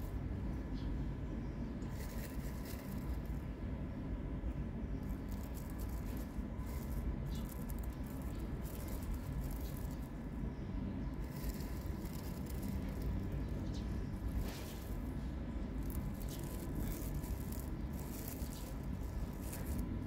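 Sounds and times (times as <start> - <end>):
low background rumble: 0.0 - 20.0
dried leaves crackling and rustling: 1.8 - 3.5, 5.0 - 20.0.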